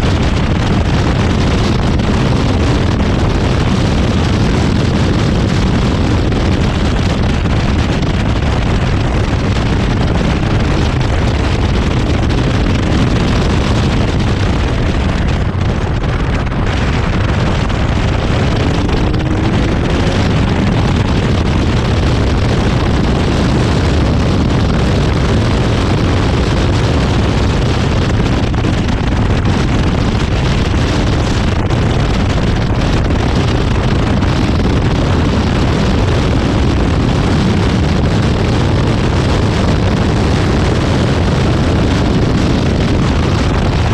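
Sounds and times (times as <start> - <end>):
car engine running hard: 0.0 - 43.9
wind buffeting microphone: 0.0 - 43.9.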